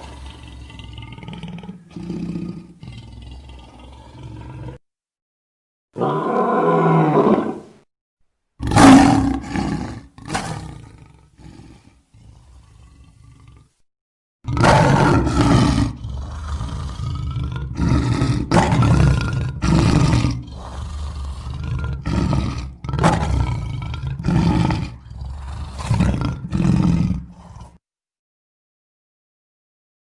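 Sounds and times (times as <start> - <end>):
lion roaring: 0.0 - 4.8, 6.0 - 7.7, 8.6 - 13.8, 14.5 - 27.8.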